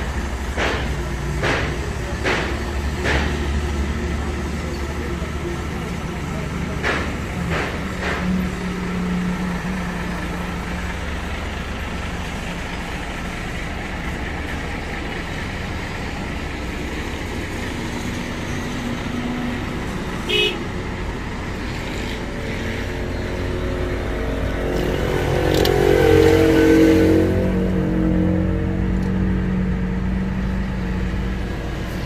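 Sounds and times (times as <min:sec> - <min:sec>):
road and traffic noise: 0:00.0 - 0:32.0
vehicle engine running: 0:00.0 - 0:32.0.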